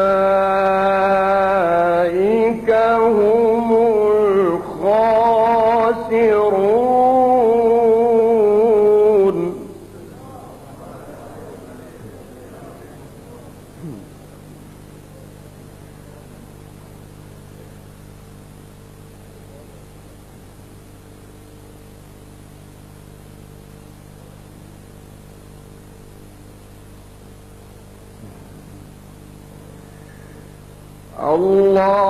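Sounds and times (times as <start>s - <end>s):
constant hiss: 0.0s - 32.0s
electrical mains hum: 0.0s - 32.0s.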